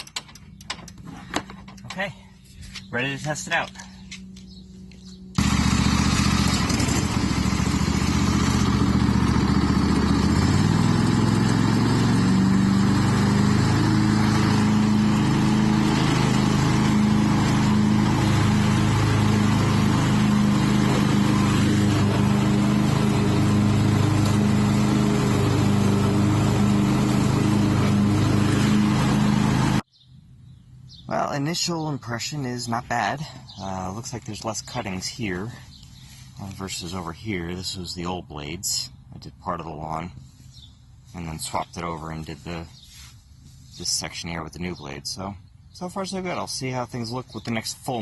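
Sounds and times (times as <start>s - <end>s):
riding lawn mower engine: 0.0s - 48.0s.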